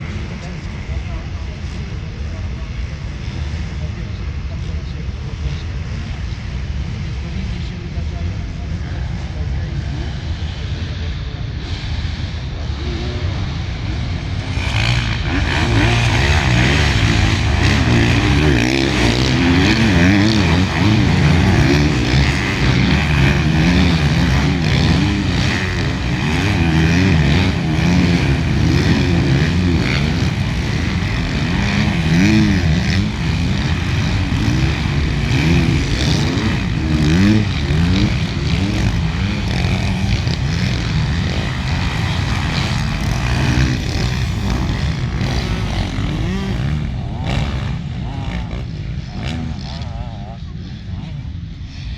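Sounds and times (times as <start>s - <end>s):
motocross bikes revving: 0.0s - 51.9s.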